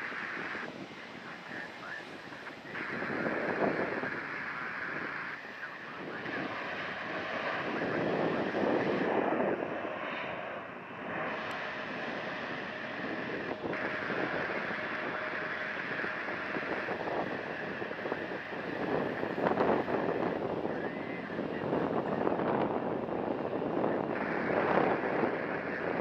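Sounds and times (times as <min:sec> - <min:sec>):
jet engines running: 0:00.0 - 0:26.0
wind buffeting microphone: 0:00.0 - 0:26.0.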